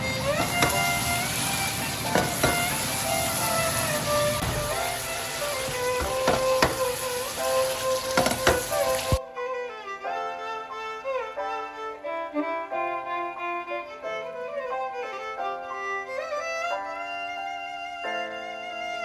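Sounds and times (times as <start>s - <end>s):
violin melody with slides: 0.0s - 19.0s.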